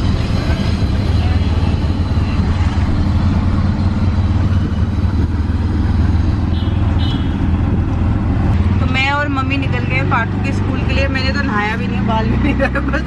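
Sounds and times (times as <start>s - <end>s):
auto-rickshaw engine rumbling: 0.0s - 13.0s
road noise: 0.0s - 13.0s.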